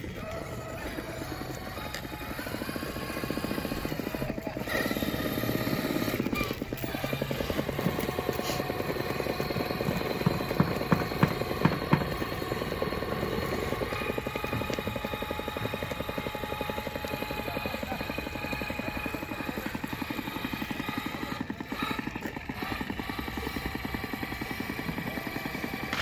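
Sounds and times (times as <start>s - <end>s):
electric motor whirring: 0.0s - 26.0s.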